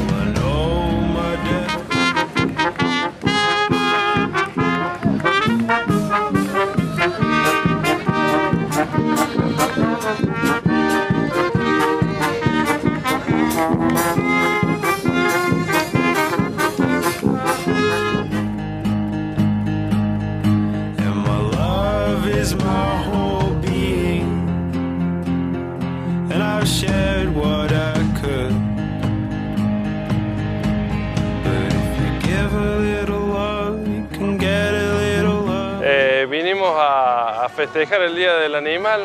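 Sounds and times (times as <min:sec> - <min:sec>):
upbeat brass music: 0:00.0 - 0:18.9, 0:21.0 - 0:24.5, 0:26.3 - 0:36.0.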